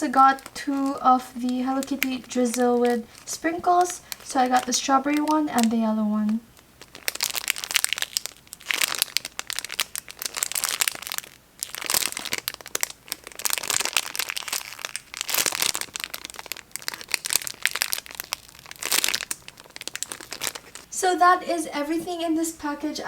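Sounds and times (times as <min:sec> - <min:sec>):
plastic packaging crinkling: 0:00.0 - 0:21.2.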